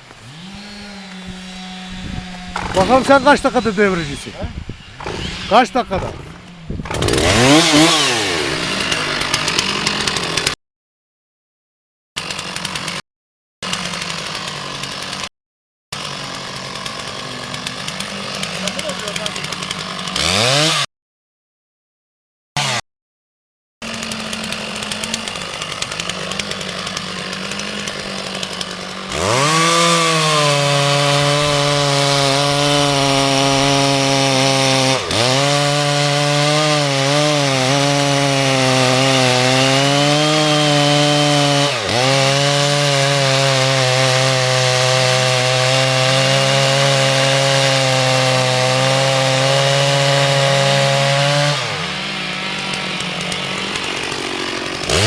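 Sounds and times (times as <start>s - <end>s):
chainsaw cutting a tree: 0.0s - 4.4s, 5.0s - 10.6s, 12.2s - 13.0s, 13.6s - 15.3s, 16.0s - 20.9s, 22.6s - 22.8s, 23.8s - 55.0s.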